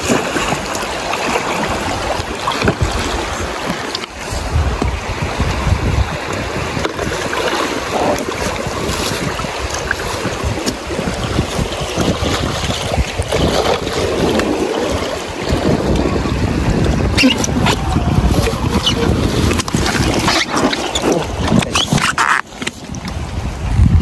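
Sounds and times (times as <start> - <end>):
river water rushing: 0.0 - 23.9
wind buffeting microphone: 1.5 - 24.0.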